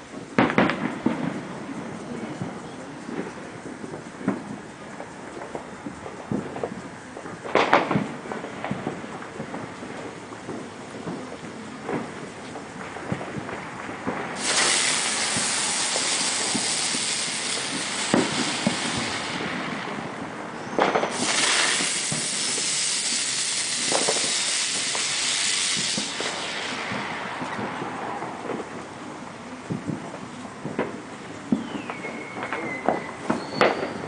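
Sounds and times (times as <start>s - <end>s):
crackles and pops: 0.0s - 34.0s
fireworks hissing: 0.0s - 34.0s.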